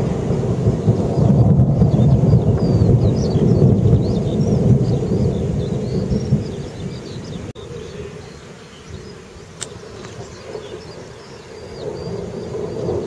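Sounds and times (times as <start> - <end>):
rolling thunder rumbling: 0.0 - 13.0.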